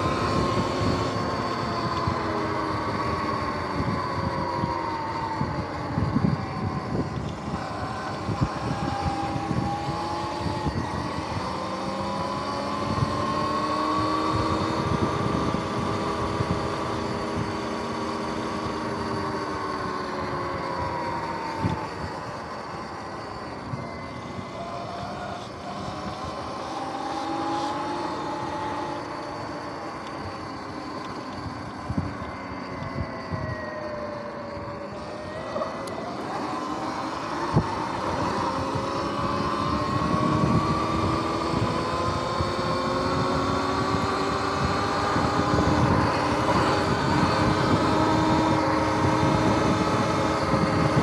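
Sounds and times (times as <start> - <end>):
electric motorbike motor whining: 0.0 - 51.0
tyre and wind noise: 0.0 - 51.0.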